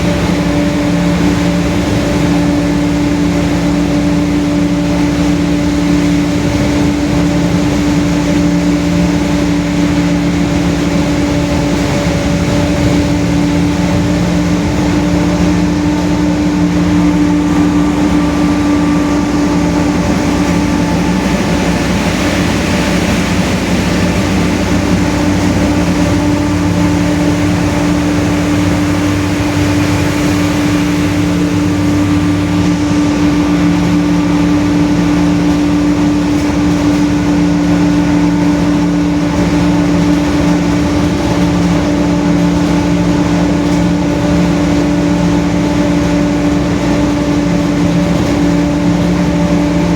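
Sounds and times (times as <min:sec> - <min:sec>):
bus differential whine: 0:00.0 - 0:49.9
bus running noise: 0:00.0 - 0:49.9.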